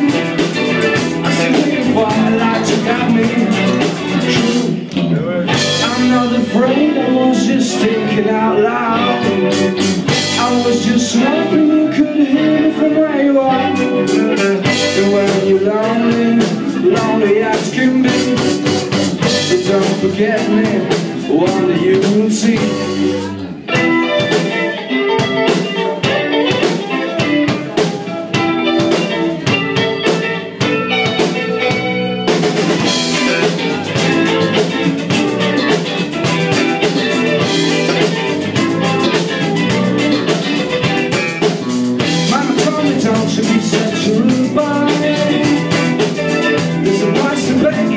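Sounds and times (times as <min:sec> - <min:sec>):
man singing: 0:00.0 - 0:23.6, 0:32.8 - 0:47.9
rock band playing: 0:00.0 - 0:47.9.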